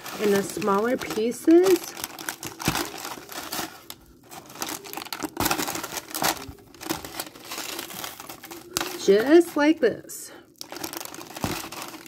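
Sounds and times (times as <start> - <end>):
parchment paper crinkling: 0.0 - 12.0.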